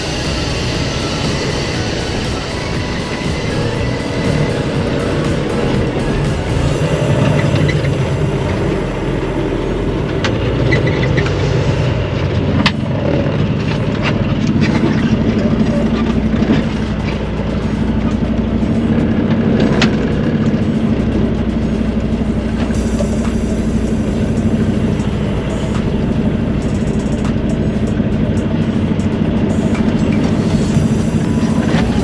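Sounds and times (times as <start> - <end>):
truck engine drone: 0.0 - 32.0.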